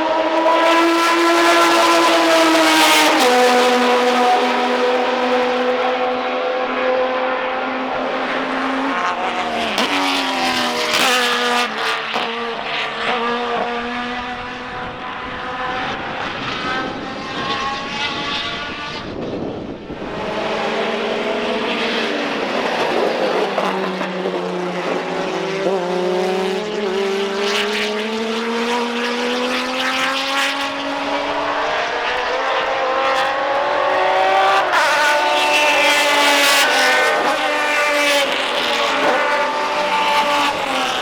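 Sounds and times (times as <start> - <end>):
race car engines at speed: 0.0 - 41.0.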